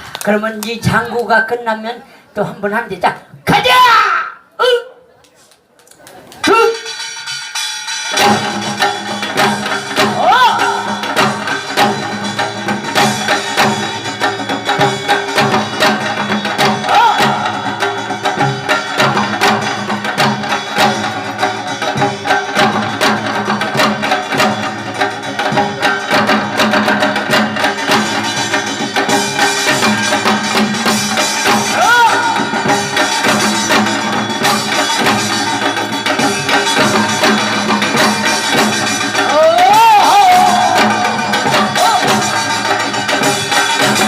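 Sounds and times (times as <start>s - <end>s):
hourglass drum steady rhythm: 6.5s - 44.0s
sustained instrumental accompaniment: 6.7s - 44.0s.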